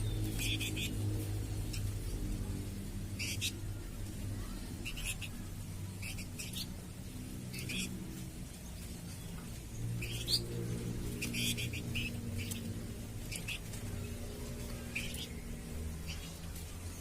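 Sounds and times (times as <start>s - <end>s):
bird chirping: 0.0s - 2.2s, 3.1s - 17.0s
steady low hum: 0.0s - 17.0s.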